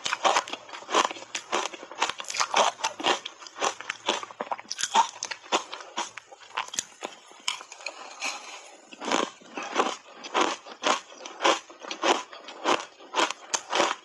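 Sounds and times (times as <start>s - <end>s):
shaved ice crunching when chewed: 0.0s - 14.0s.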